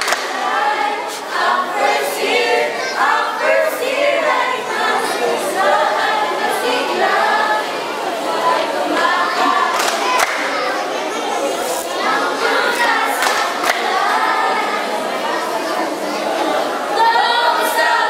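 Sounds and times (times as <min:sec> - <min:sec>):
young voices singing in chorus: 0:00.0 - 0:18.0.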